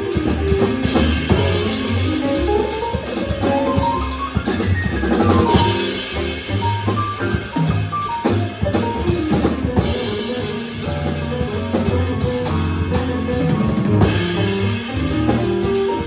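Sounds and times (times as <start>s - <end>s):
busy drumming: 0.0s - 16.0s
piano chords: 0.0s - 16.0s
walking double bass: 0.0s - 16.0s.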